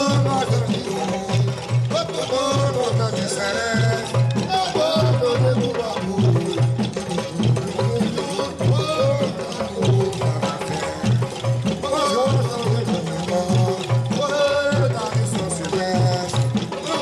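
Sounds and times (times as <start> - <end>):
low drum beat: 0.0 - 17.0
maracas rattling: 0.0 - 17.0
person singing: 0.0 - 17.0.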